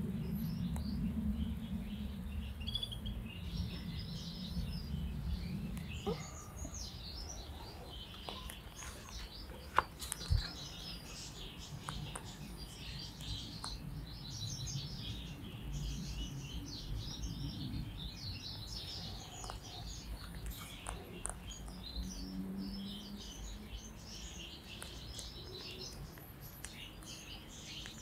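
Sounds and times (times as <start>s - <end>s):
bird twittering song: 0.0s - 28.0s.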